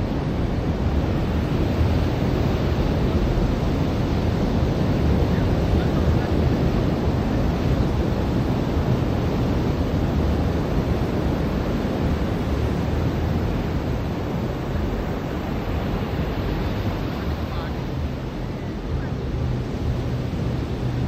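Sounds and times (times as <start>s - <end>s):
ocean surf washing onto beach: 0.0s - 21.0s.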